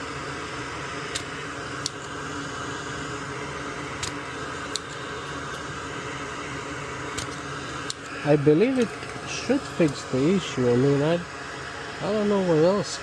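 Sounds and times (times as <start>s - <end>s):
whirring background hum: 0.0s - 13.0s.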